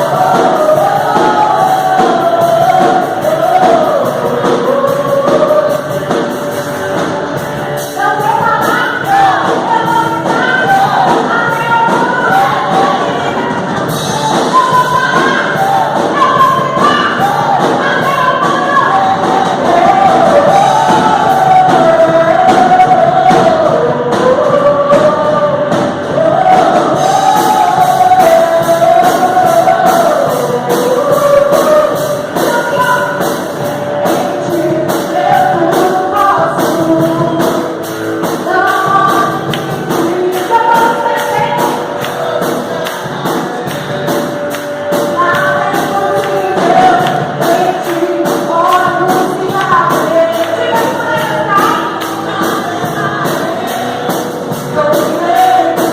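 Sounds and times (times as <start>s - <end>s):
band accompaniment with steady beat: 0.0s - 55.9s
group singing gospel song: 0.0s - 55.9s.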